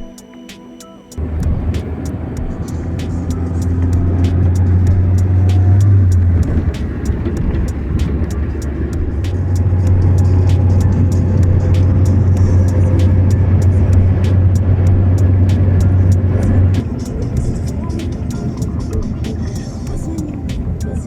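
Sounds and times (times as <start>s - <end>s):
car engine and road rumble: 1.2s - 21.0s.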